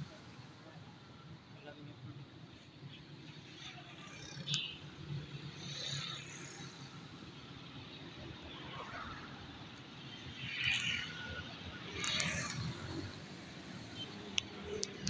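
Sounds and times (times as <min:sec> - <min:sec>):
car engines: 0:00.0 - 0:15.0
motorcycle engines: 0:00.0 - 0:15.0.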